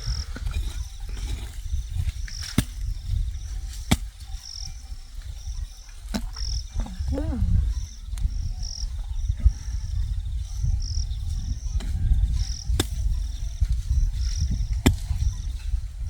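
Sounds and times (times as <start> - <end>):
crickets chirping: 0.0 - 16.0
steady low rumble: 0.0 - 16.0.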